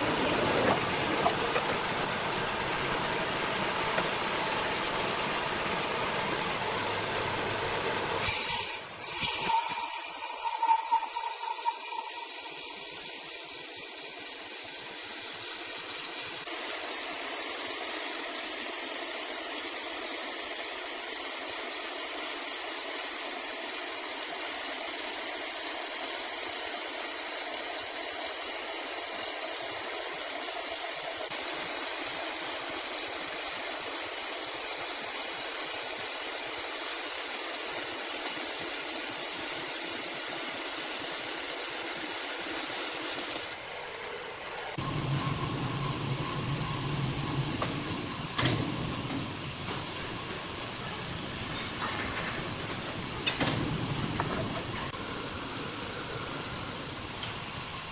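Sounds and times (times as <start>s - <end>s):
machinery hissing and rattling: 8.2s - 57.9s.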